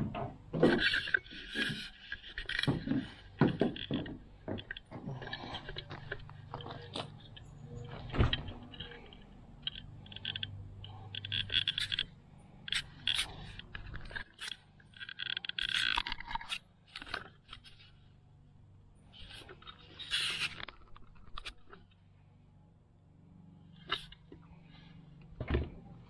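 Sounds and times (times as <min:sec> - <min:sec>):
handling scrapes and clicks: 0:00.6 - 0:18.2, 0:19.0 - 0:22.0, 0:23.7 - 0:25.3.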